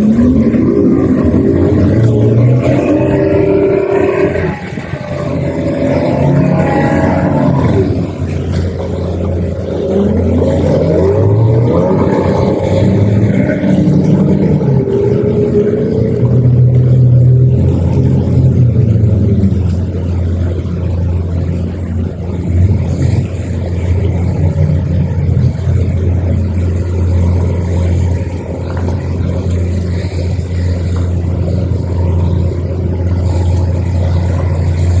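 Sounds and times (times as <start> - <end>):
outboard motors running: 0.0 - 35.0.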